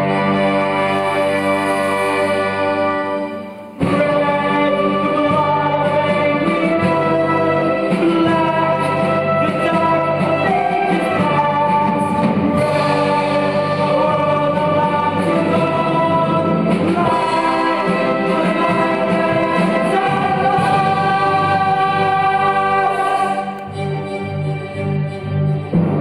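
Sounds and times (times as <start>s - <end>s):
ensemble singing with instruments: 0.0s - 26.0s.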